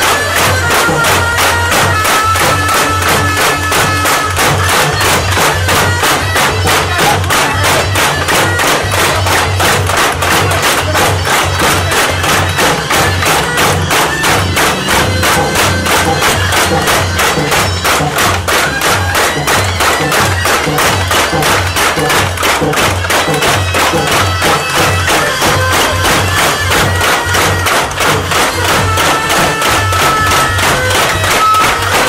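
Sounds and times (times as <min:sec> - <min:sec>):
clashing hand cymbals: 0:00.0 - 0:32.0
fast driving drumbeats: 0:00.0 - 0:32.0
shrill reed-pipe melody: 0:00.0 - 0:32.0.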